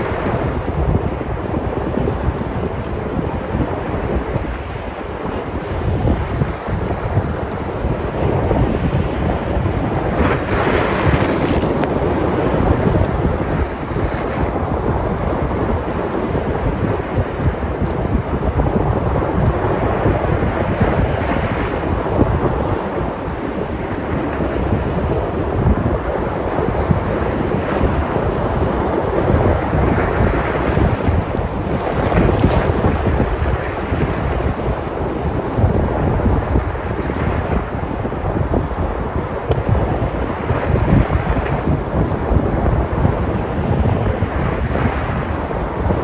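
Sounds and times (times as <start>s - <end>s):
waves breaking: 0.0s - 46.0s
wind buffeting microphone: 0.0s - 46.0s.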